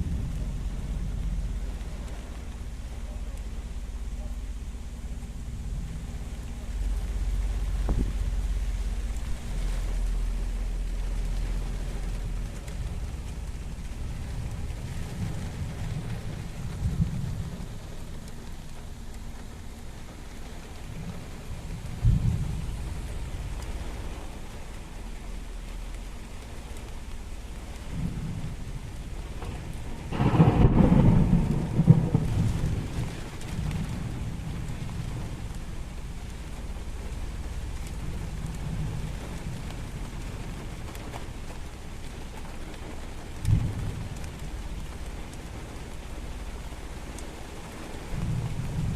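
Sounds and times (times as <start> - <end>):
rain pouring: 0.0 - 48.9
thunder rumbling: 0.0 - 48.9.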